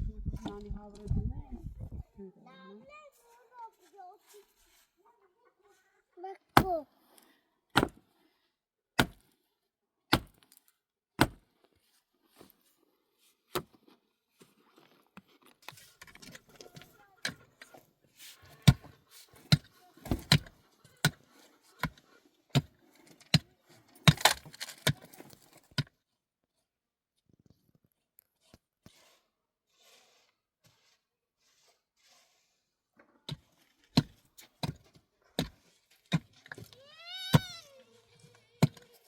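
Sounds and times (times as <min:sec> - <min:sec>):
rustling and handling of wood: 0:00.4 - 0:08.4, 0:10.4 - 0:39.0.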